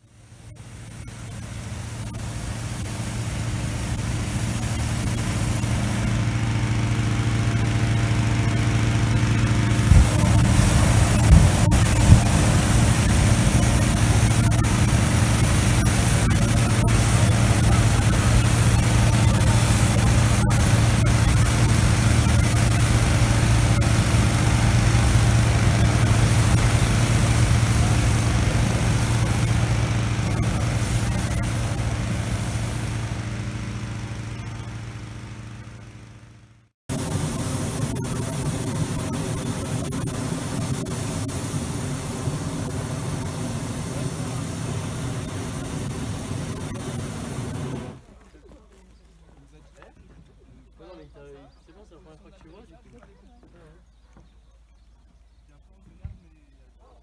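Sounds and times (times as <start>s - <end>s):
petrol engine fan running: 0.0s - 48.3s
propane burner firing: 0.4s - 35.9s, 36.9s - 48.1s.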